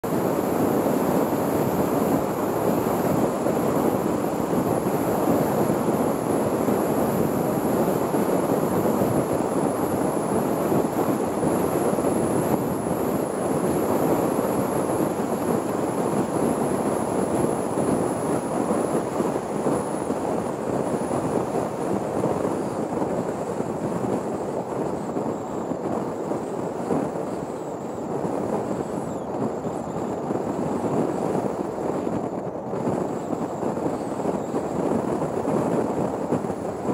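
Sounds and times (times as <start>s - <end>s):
wind rushing over camera: 0.0s - 36.9s.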